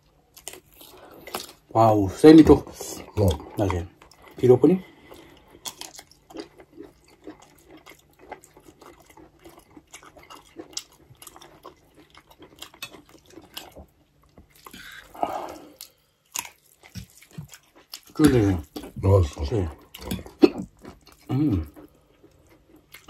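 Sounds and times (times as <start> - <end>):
chewing with wet clicks: 0.0 - 1.7, 2.8 - 23.0.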